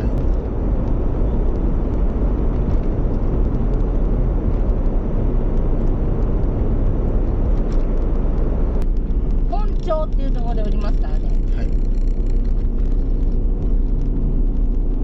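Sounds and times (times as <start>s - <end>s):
car engine rumble: 0.0s - 15.0s
wind noise: 0.0s - 15.0s.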